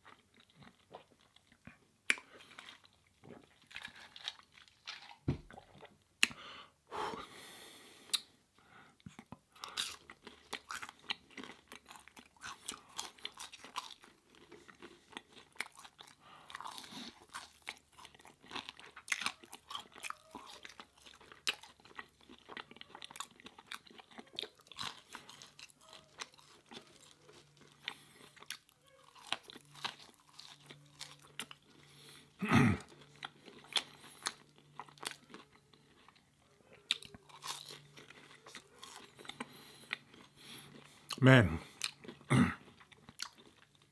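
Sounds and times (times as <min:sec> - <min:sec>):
person chewing and crunching: 0:00.0 - 0:06.4, 0:09.0 - 0:43.9.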